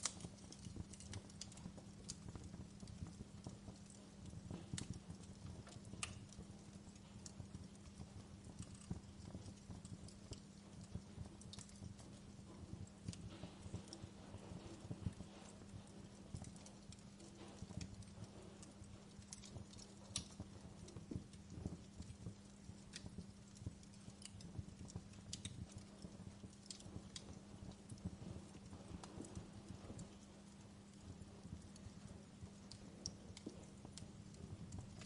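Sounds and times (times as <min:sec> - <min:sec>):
steady low hum: 0:00.0 - 0:35.0
wood fire crackling: 0:00.0 - 0:35.0.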